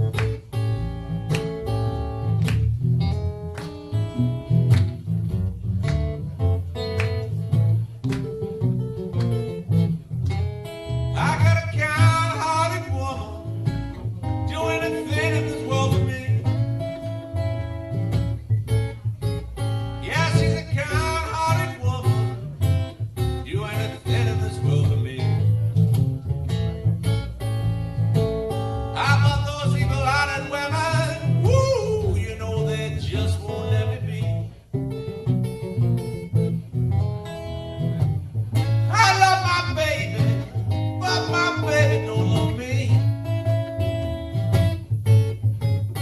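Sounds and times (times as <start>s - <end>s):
acoustic guitar blues accompaniment: 0.0s - 46.0s
bending guitar lead melody: 0.0s - 46.0s.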